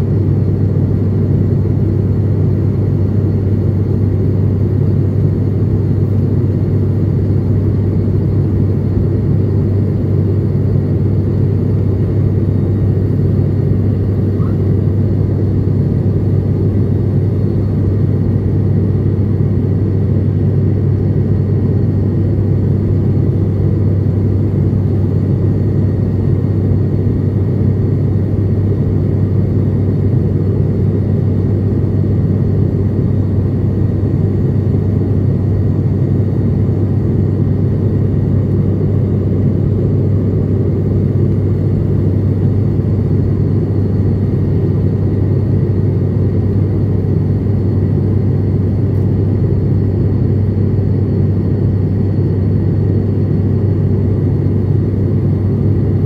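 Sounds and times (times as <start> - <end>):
aircraft cabin drone: 0.0 - 56.0.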